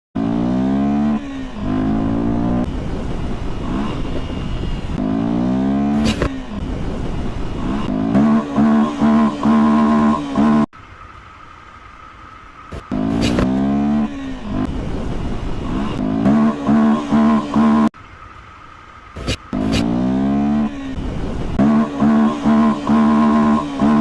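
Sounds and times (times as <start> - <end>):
motorcycle engine revving: 0.2 - 10.7, 12.7 - 18.0, 19.2 - 24.0.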